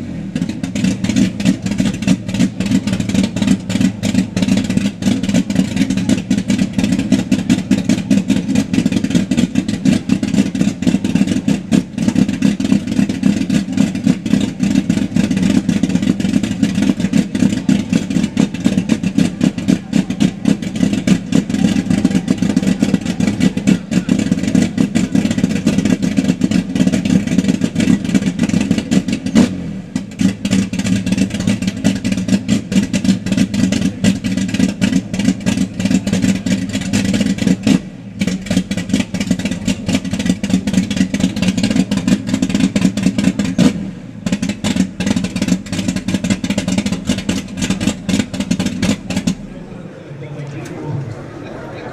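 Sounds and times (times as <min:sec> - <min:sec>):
car engine exhaust rumble: 0:00.0 - 0:51.9.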